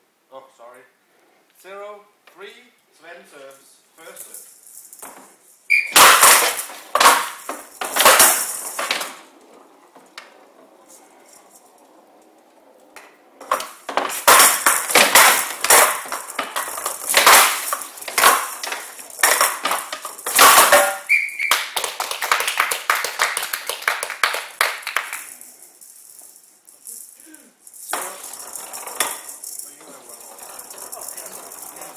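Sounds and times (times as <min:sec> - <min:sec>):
ball rattling across table: 0:04.2 - 0:31.9.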